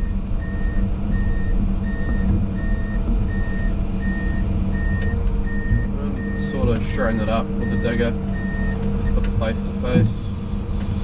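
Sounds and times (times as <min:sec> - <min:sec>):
excavator motion alarm beeping: 0:00.0 - 0:09.2
diesel engine running: 0:00.0 - 0:11.0.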